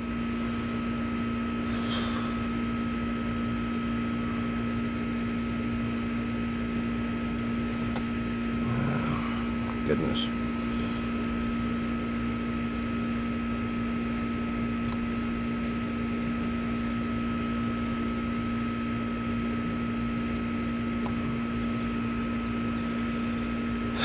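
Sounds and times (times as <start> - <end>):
mechanical fan hum: 0.0 - 24.0.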